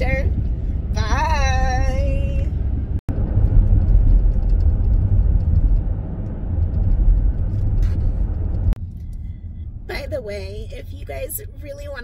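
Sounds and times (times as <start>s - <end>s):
tyres and engine rumbling: 0.0s - 12.0s.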